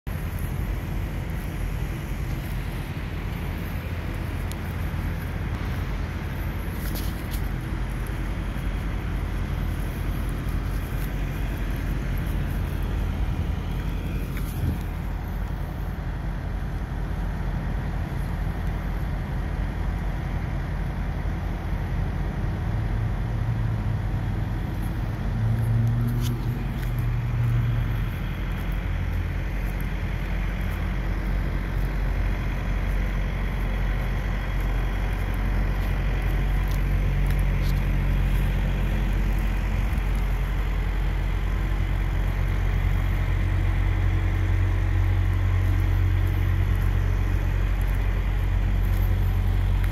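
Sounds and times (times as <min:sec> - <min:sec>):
heavy vehicle engine rumbling: 0:00.0 - 0:49.9.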